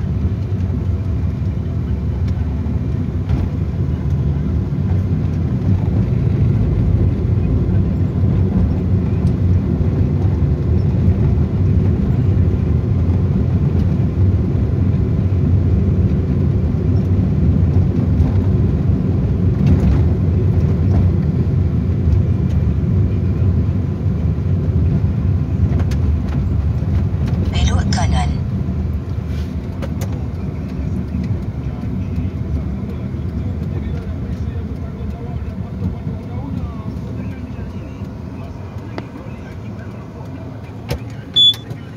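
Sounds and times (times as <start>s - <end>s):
car engine rumble: 0.0s - 41.9s
tyres on rough road: 0.0s - 41.9s.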